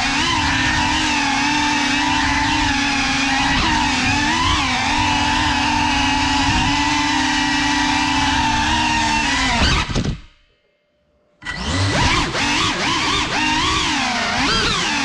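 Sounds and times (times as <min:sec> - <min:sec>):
drone motors whining: 0:00.0 - 0:10.2, 0:11.4 - 0:15.0.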